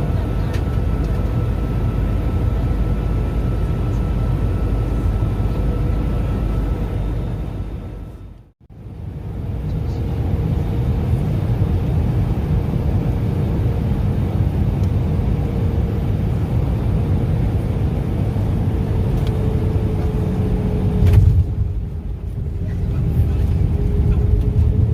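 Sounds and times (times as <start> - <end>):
aircraft cabin engine rumble: 0.0 - 24.9.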